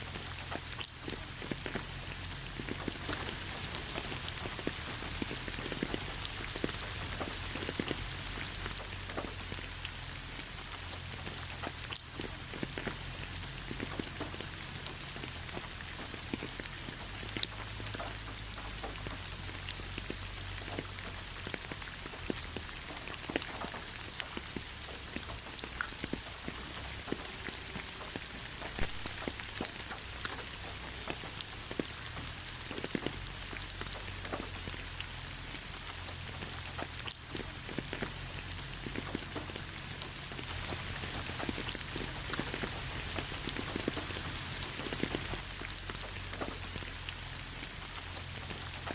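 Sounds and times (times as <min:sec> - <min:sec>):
raindrops pattering: 0:00.0 - 0:48.9
steady rain hiss: 0:00.0 - 0:48.9.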